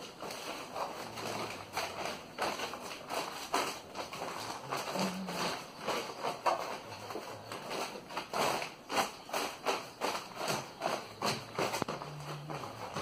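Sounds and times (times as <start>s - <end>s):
foil insulation crinkling and rustling: 0.0s - 13.0s.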